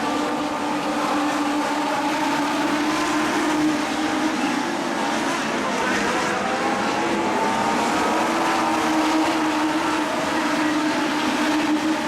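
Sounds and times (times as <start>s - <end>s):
race car engines running: 0.0s - 12.0s.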